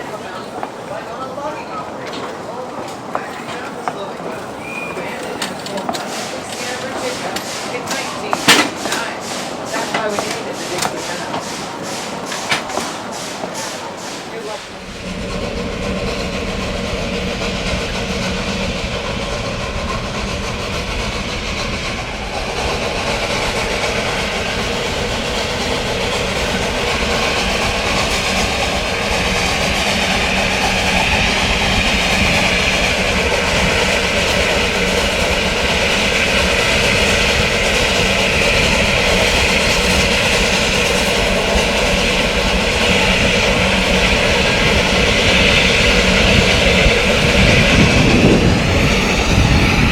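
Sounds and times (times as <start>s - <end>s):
steam hiss: 0.0s - 49.9s
steam train rumbling on track: 0.0s - 49.9s.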